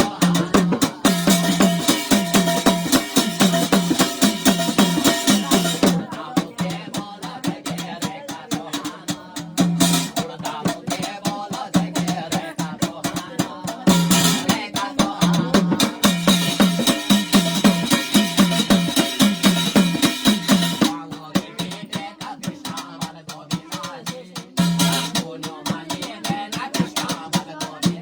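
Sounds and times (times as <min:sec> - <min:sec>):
fast drum strokes: 0:00.0 - 0:28.0.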